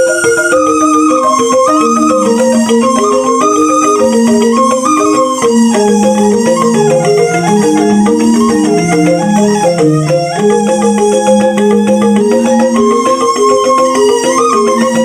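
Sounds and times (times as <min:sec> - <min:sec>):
bamboo xylophone playing: 0:00.0 - 0:15.0.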